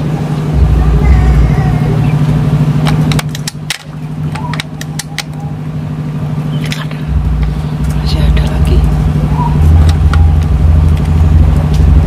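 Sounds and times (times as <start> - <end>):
mechanical hum with low rumble: 0.0 - 12.0.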